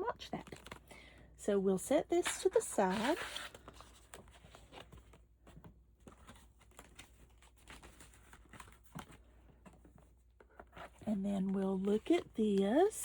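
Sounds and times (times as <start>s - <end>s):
paper and plastic packaging rustling: 2.2s - 13.0s.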